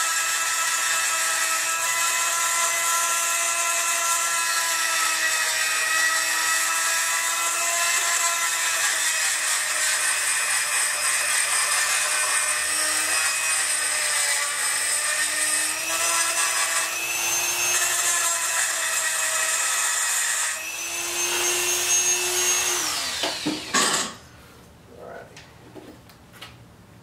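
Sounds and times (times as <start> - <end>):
rotary tool grinding metal: 0.0 - 24.2.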